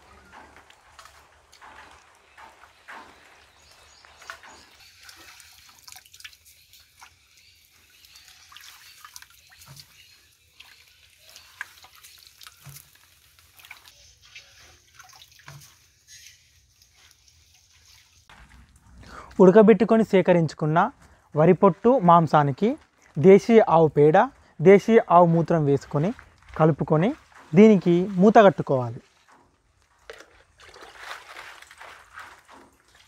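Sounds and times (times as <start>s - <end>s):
wet drips and small splashes: 0.0s - 19.4s, 20.8s - 33.0s.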